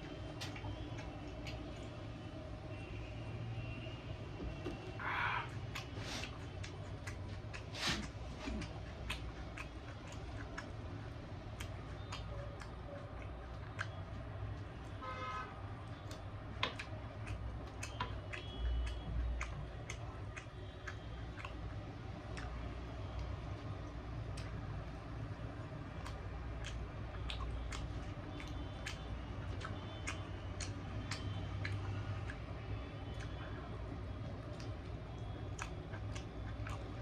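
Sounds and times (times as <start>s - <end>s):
person chewing: 0.0s - 2.6s, 4.5s - 37.0s.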